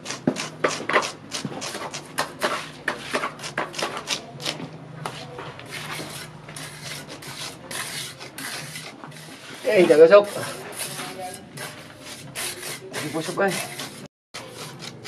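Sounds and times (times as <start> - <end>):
hands scraping wet cement: 0.1 - 15.0.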